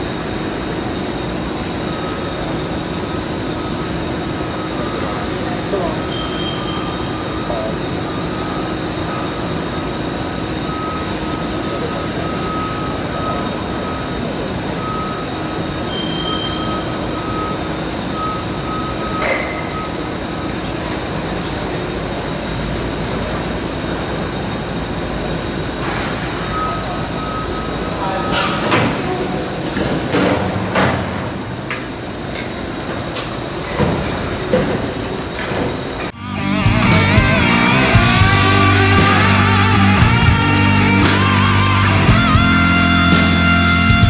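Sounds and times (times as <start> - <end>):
factory machinery noise: 0.0 - 44.0.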